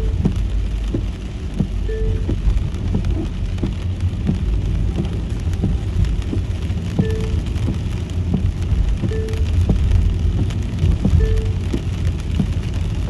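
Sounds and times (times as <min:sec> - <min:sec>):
car driving on a wet road: 0:00.0 - 0:13.0
raindrops ticking on a car: 0:00.0 - 0:13.0.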